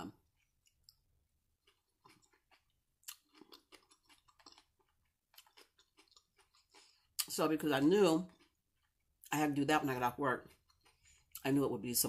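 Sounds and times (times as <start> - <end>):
chewing coleslaw: 0.1 - 11.6.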